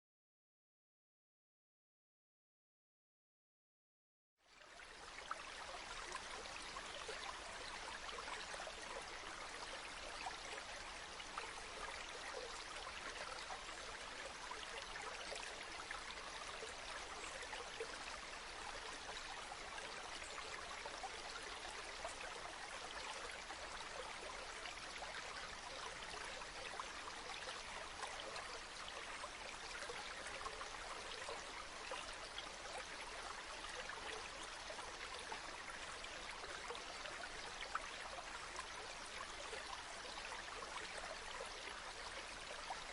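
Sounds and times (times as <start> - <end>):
stream babbling over rocks: 5.0 - 42.9.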